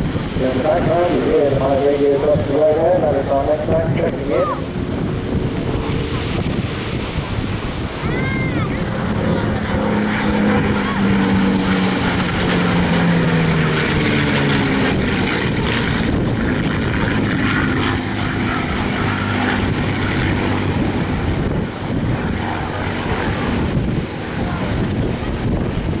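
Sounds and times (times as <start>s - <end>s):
aircraft engine flying past: 0.0s - 26.0s
wind noise: 0.0s - 26.0s.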